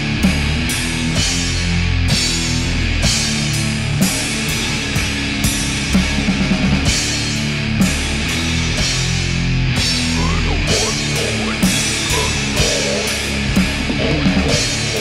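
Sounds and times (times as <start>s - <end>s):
distorted guitar and bass: 0.0s - 15.0s
drums: 0.0s - 15.0s.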